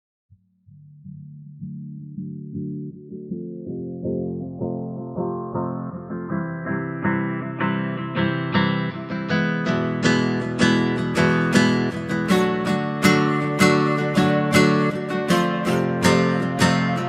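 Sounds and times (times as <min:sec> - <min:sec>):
strummed guitar: 0:01.6 - 0:17.0.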